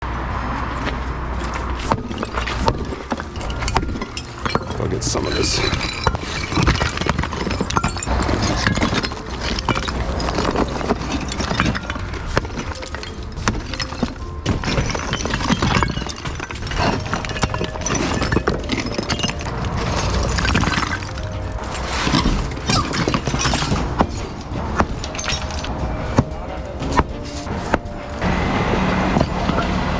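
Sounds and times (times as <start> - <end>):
background music: 0.0 - 29.9
demolition knocks and impacts: 0.4 - 29.9
debris breaking and shattering: 0.6 - 29.9.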